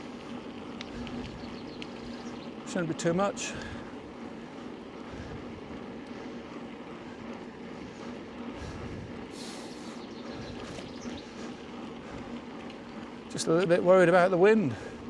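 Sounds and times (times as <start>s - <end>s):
bicycle tyre noise on road: 0.0s - 15.0s.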